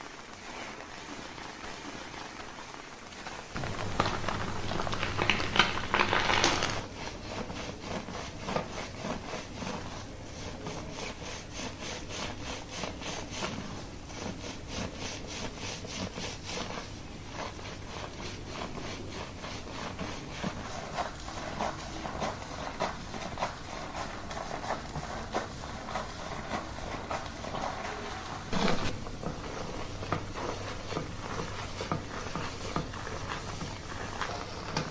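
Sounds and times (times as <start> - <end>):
fingers scrubbing lathered scalp: 3.6 - 34.9.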